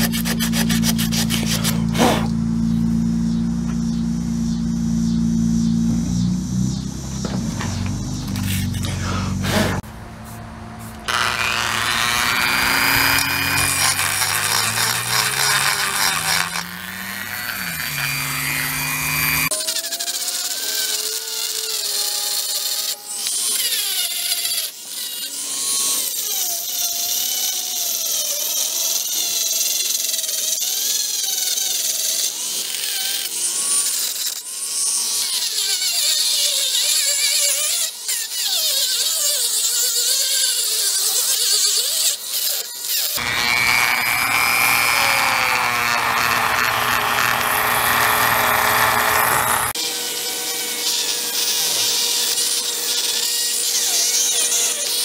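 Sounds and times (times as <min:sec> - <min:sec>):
rotary tool grinding metal: 0:00.0 - 0:02.8, 0:07.0 - 0:55.0.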